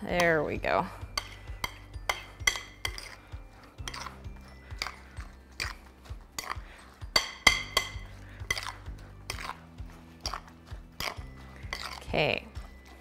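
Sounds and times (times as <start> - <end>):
soft background music: 0.0 - 13.0
spoon clinking in glass bowl: 1.1 - 9.6, 10.2 - 13.0.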